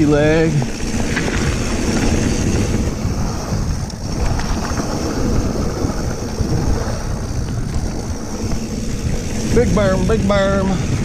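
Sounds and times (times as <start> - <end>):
bike clicks and rattles: 0.0 - 11.0
bike tyres rolling on dirt: 0.0 - 11.0
wind rushing over microphone: 0.0 - 11.0.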